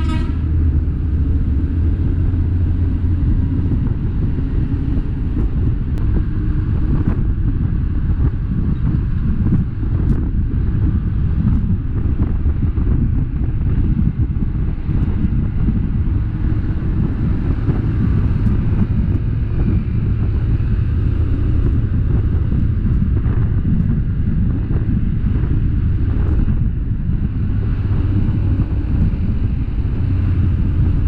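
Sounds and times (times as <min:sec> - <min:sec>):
vehicle engine and tyre noise: 0:00.0 - 0:31.0
wind rumbling on microphone: 0:00.0 - 0:31.0.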